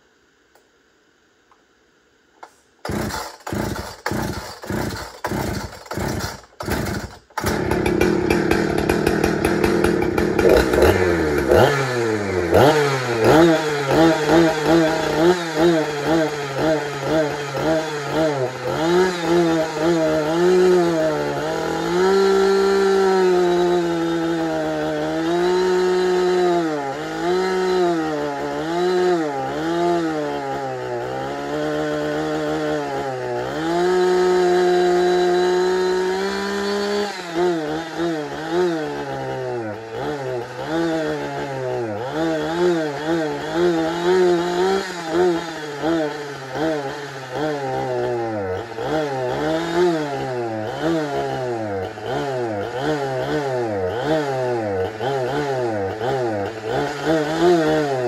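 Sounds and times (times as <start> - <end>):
chainsaw revving: 2.4 - 58.0.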